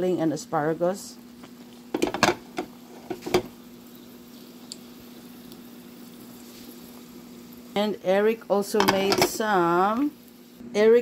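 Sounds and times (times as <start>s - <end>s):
broth boiling hiss: 0.0s - 10.6s.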